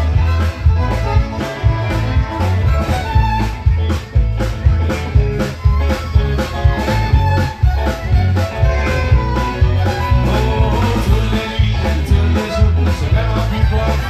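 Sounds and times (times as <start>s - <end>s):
electric guitar: 0.0s - 14.0s
fiddle: 0.0s - 14.0s
heavy electric bass line: 0.0s - 14.0s
steady drum beat: 0.0s - 14.0s.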